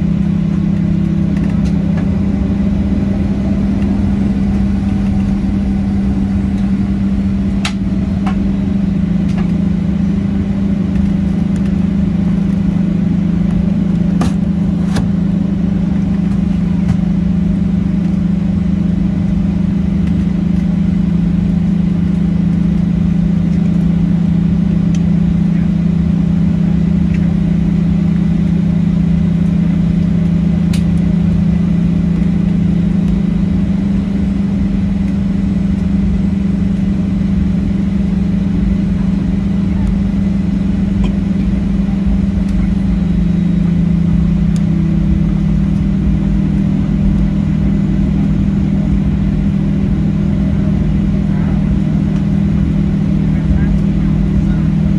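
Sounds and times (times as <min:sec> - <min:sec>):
airplane cabin engine drone: 0:00.0 - 0:54.9.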